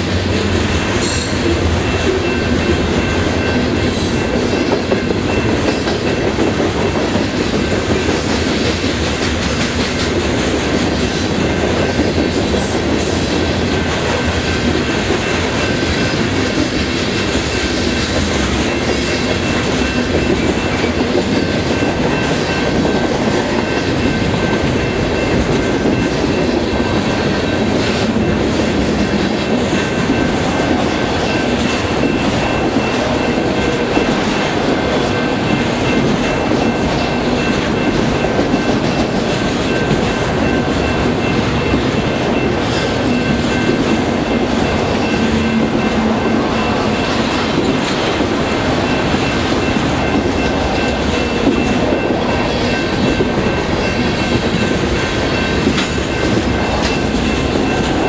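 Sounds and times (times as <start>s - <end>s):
train wheels rumbling on rails: 0.0s - 58.0s
wheels clacking over rail joints: 0.0s - 58.0s.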